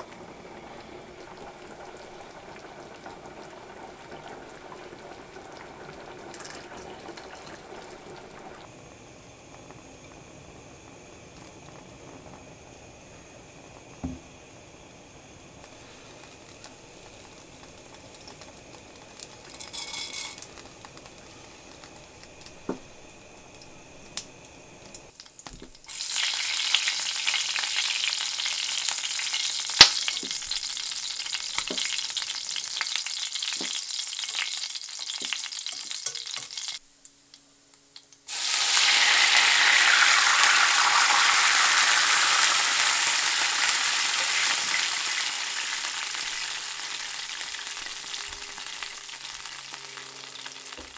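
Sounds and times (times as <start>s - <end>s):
food sizzling in oil: 0.0s - 10.1s, 14.7s - 50.9s.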